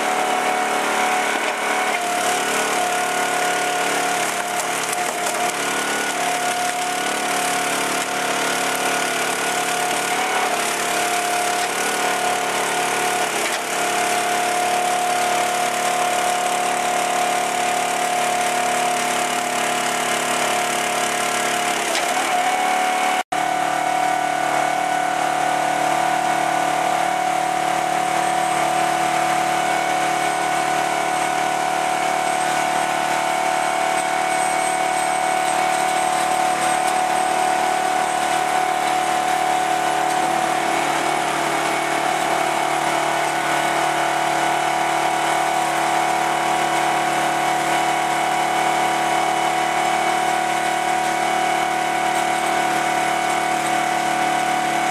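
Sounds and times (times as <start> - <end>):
machine engine running steadily: 0.0 - 54.9.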